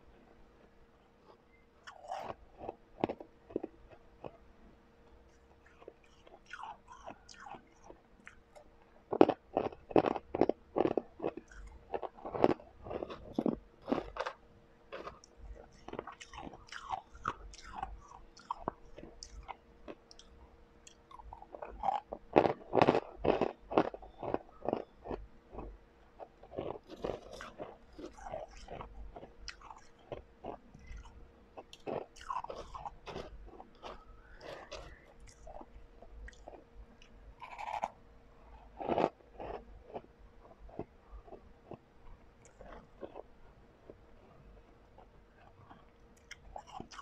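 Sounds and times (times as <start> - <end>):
chewing crunchy ice: 1.3 - 4.5, 5.3 - 47.0.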